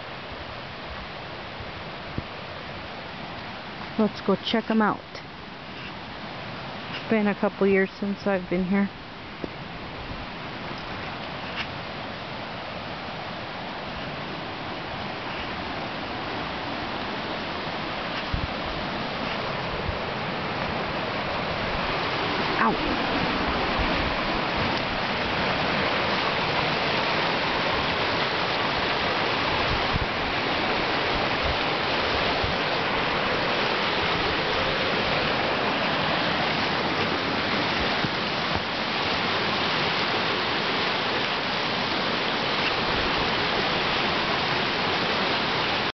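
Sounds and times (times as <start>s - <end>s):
white water roaring: 0.0s - 45.9s.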